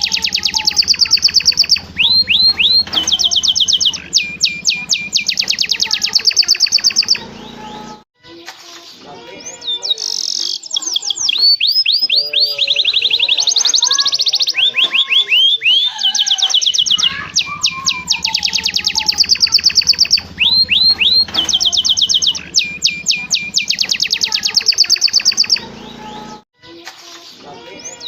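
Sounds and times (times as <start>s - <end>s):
canary singing trills: 0.0s - 8.0s, 9.3s - 26.4s.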